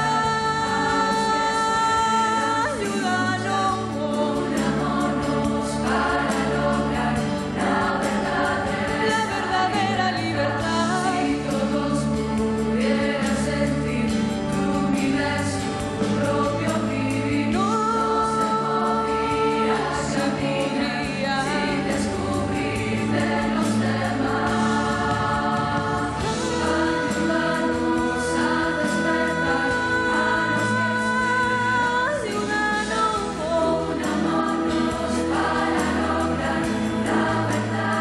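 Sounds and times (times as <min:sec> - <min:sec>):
choir singing: 0:00.0 - 0:38.0
instrumental accompaniment: 0:00.0 - 0:38.0.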